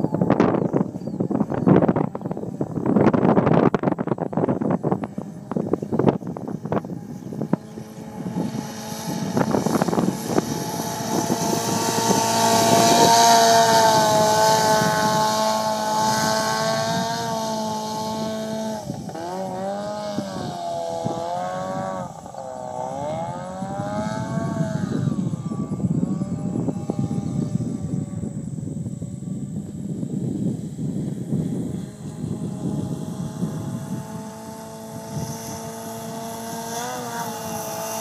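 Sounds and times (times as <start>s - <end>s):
boat engine at speed: 0.0s - 38.0s
wind buffeting microphone: 0.0s - 38.0s.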